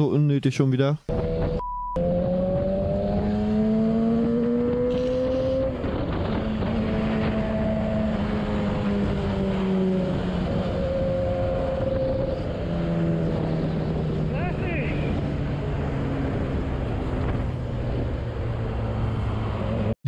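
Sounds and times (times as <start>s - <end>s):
motorcycle engine accelerating: 1.1s - 20.0s
wind rushing over microphone: 1.2s - 20.0s.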